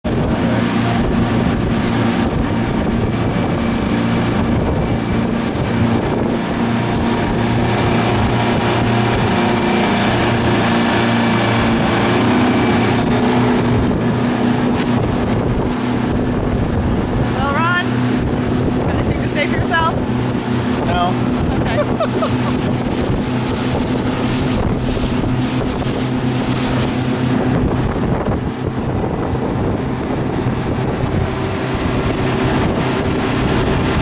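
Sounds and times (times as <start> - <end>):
outboard motor drone: 0.0 - 34.0
rushing spray and water: 0.0 - 34.0
wind buffeting microphone: 0.0 - 34.0.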